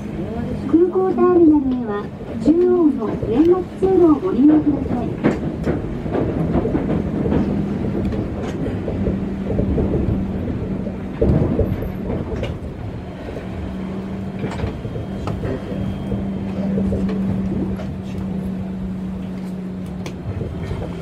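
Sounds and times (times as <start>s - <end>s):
monorail car rumbling: 0.0s - 21.0s.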